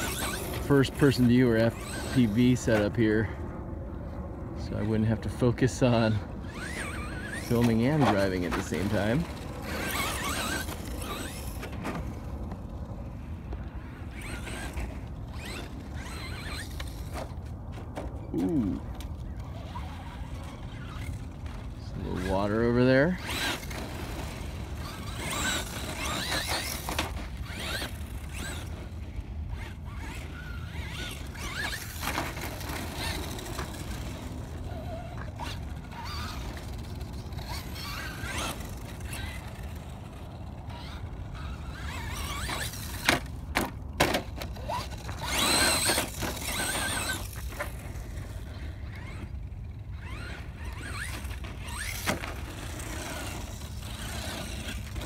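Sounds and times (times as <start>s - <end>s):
rc motor whining: 0.0s - 3.4s, 5.7s - 55.0s.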